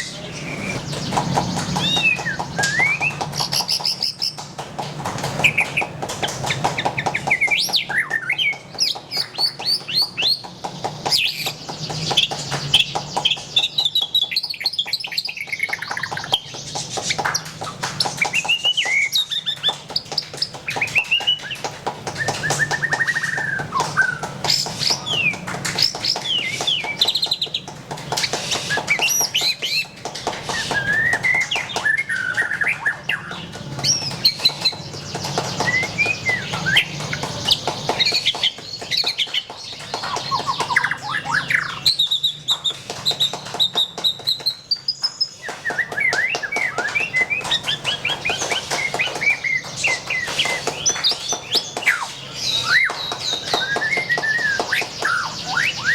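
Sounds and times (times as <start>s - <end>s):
songbird whistling and trilling: 0.0s - 4.5s, 5.4s - 55.9s.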